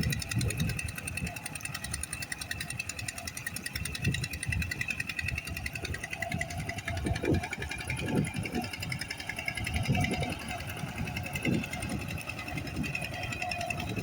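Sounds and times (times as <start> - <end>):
engine running with fast beat: 0.0 - 14.0.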